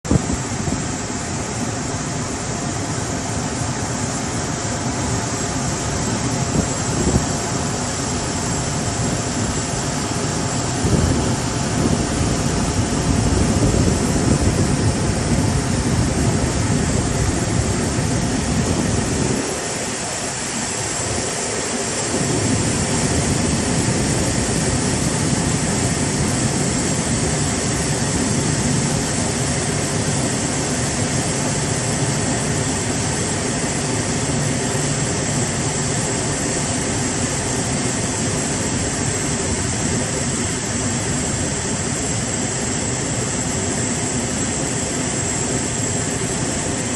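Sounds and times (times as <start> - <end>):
jet engines running: 0.0 - 46.9
thin high whine: 0.1 - 46.9.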